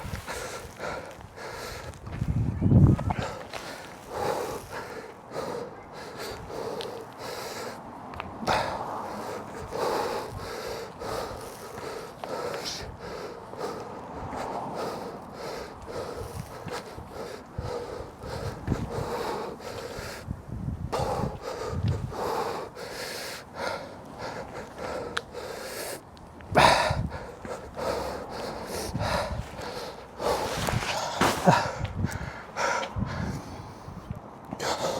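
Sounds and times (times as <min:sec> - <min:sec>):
person breathing hard: 0:00.0 - 0:02.1, 0:03.1 - 0:34.9.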